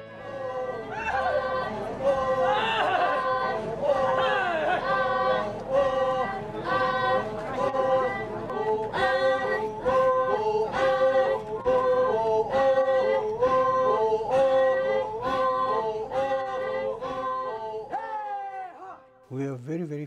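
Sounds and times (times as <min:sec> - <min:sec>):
unaccompanied voices chanting: 0:00.0 - 0:19.1.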